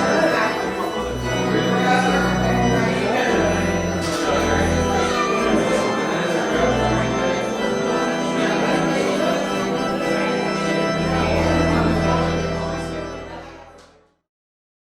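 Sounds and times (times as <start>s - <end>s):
church organ chords: 0.0s - 14.2s.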